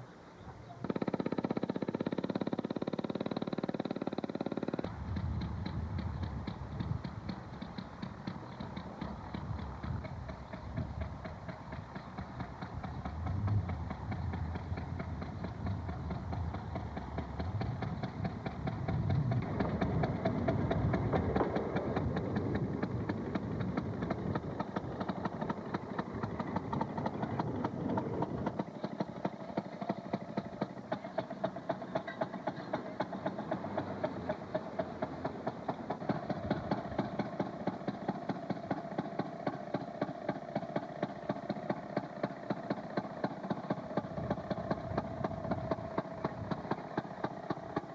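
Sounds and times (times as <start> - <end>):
rail noise: 0.0 - 47.9
two-stroke engine popping exhaust: 0.0 - 47.9.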